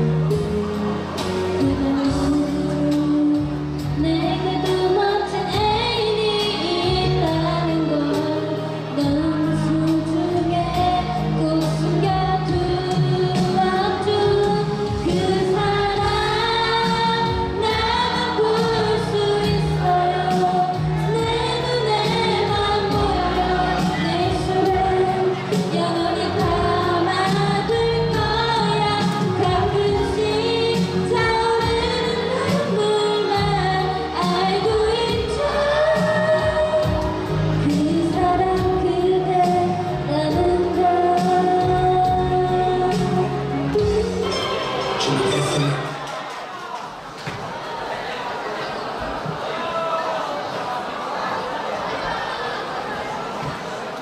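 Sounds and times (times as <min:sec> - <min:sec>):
girl singing pop song: 0:00.0 - 0:44.8
backing track with steady beat: 0:00.0 - 0:47.6.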